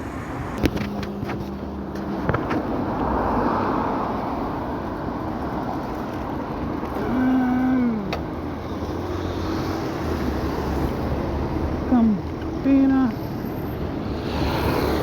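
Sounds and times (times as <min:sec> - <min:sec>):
passing traffic: 0:00.0 - 0:15.0.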